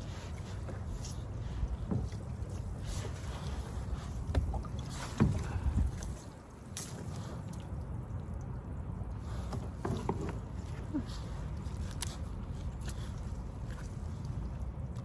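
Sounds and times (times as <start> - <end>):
water splashing around kayak: 0.0 - 15.0
wind rumble on microphone: 0.0 - 15.0.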